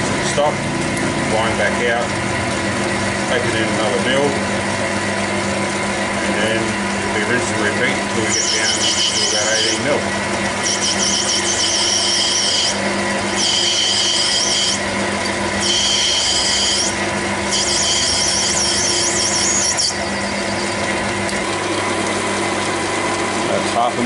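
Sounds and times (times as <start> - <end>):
lathe humming: 0.0 - 24.0
lathe tool squealing: 0.1 - 23.8.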